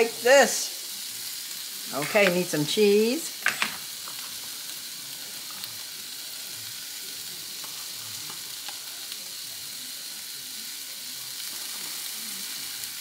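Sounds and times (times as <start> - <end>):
omelette sizzling on griddle: 0.0 - 13.0.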